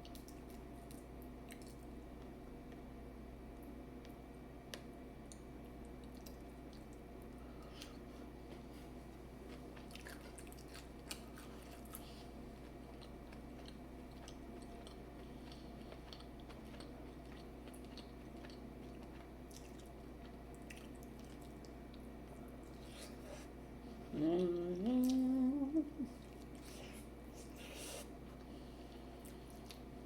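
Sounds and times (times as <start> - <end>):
person chewing food: 0.0 - 2.3, 6.0 - 30.0.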